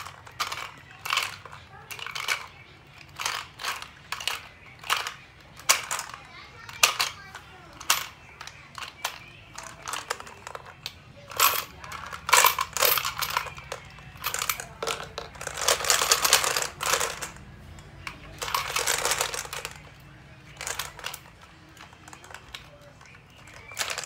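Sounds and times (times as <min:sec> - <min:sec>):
candies rattling in plastic globe: 0:00.0 - 0:17.4, 0:18.0 - 0:24.0.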